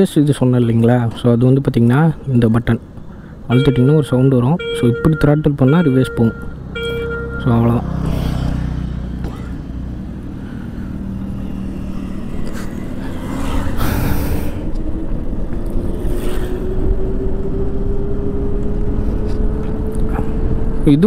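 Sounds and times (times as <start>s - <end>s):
road rumble: 0.0s - 21.0s
wind: 0.0s - 21.0s.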